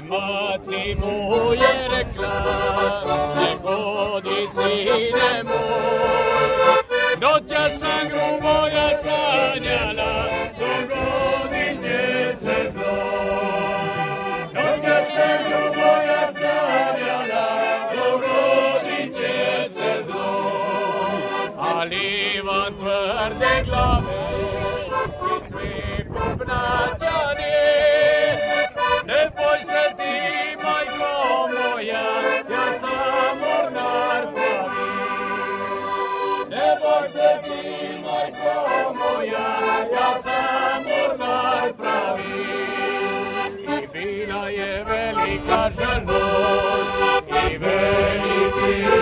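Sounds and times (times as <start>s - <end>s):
men singing along: 0.0s - 35.6s, 36.4s - 43.2s, 44.0s - 49.0s
button accordion playing folk tune: 0.0s - 49.0s.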